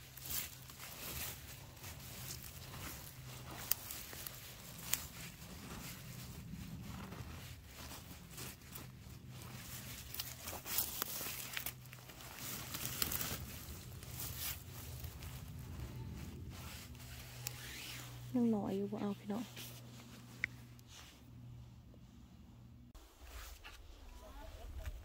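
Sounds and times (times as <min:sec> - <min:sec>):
rustling of forest floor litter: 0:00.0 - 0:21.5
low steady rumble: 0:00.0 - 0:23.1.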